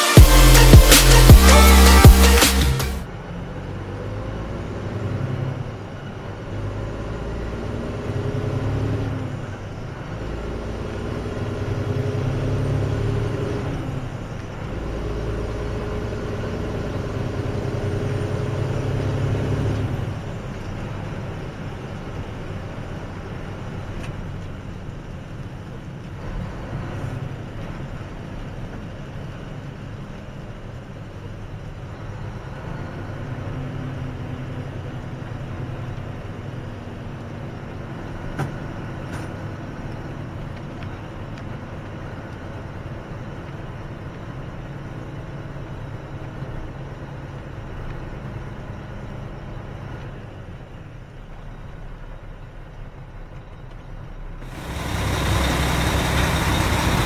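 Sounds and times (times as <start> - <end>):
truck diesel engine: 0.0 - 57.0.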